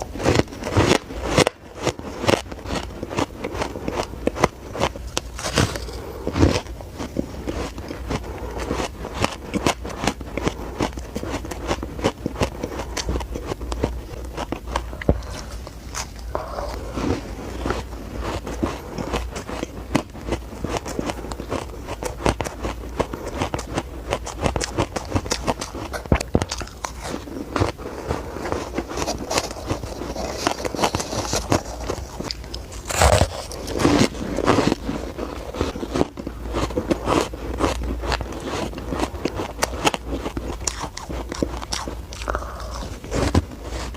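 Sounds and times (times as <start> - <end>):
chewing crunchy ice: 0.0 - 43.9.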